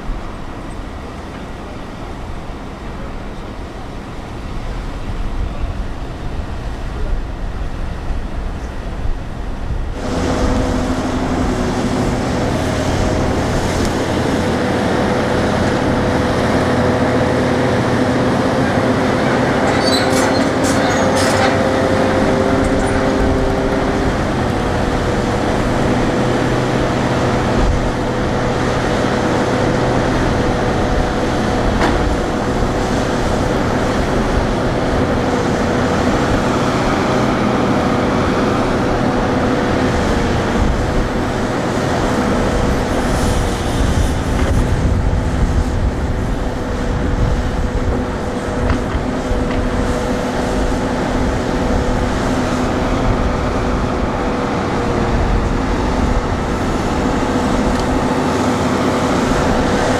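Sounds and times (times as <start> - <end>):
constant whine: 0.0 - 59.9
excavator diesel engine running: 0.0 - 59.9.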